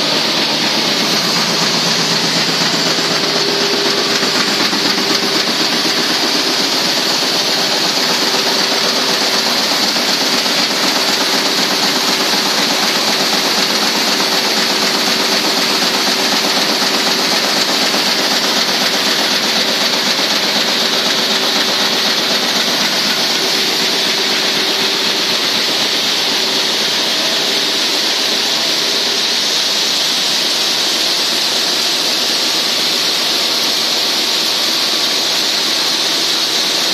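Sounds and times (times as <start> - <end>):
machine noise with high hiss: 0.0 - 36.9.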